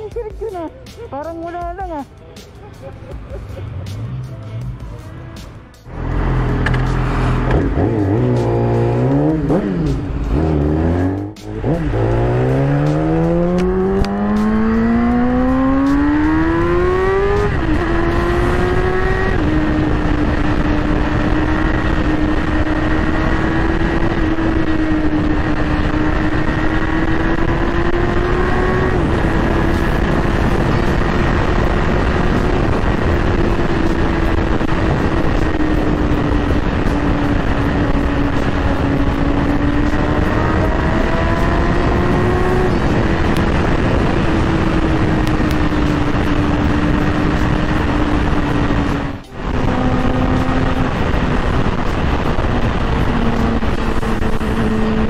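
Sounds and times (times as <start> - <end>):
motorcycle engine revving: 5.9 - 55.0
wind noise: 9.2 - 55.0.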